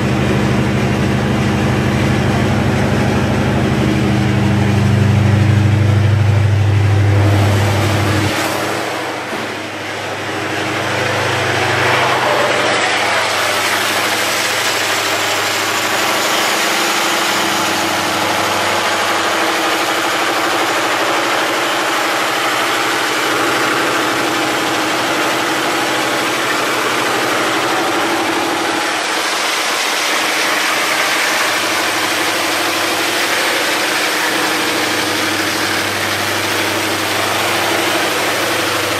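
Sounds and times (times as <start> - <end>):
diesel generator running: 0.0 - 38.9.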